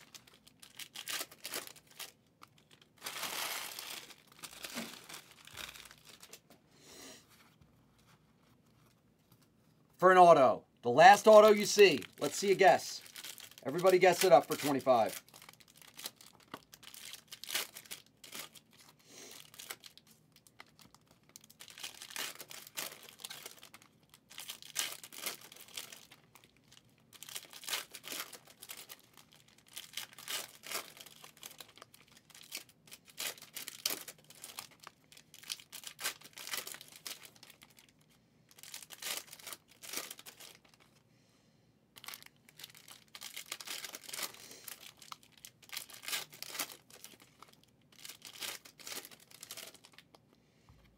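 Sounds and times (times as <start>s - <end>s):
plastic wrappers tearing and crinkling: 0.0s - 6.5s, 11.0s - 41.0s, 42.0s - 50.2s.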